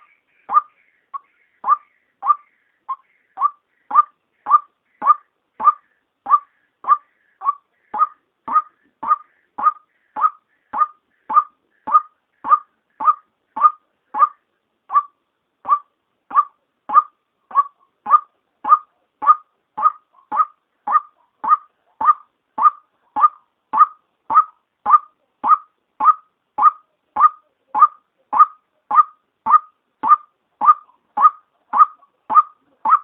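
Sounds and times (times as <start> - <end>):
waterhen call: 0.0 - 33.0.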